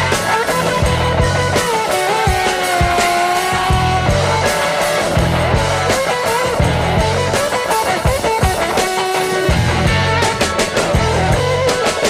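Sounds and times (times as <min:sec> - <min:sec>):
bass: 0:00.0 - 0:12.0
guitar melody: 0:00.0 - 0:12.0
steady beat: 0:00.0 - 0:12.0.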